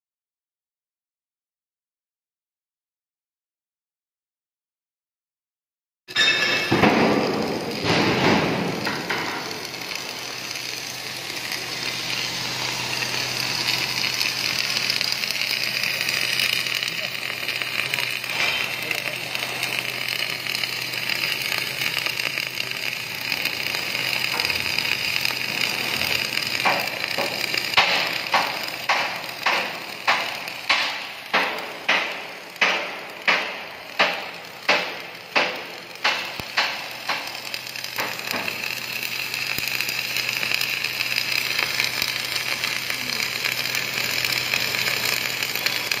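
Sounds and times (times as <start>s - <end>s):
welding arc crackling hiss: 6.1s - 46.0s.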